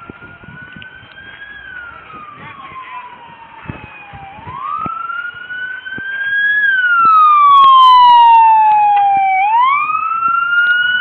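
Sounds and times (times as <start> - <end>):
police siren wailing: 0.0 - 11.0.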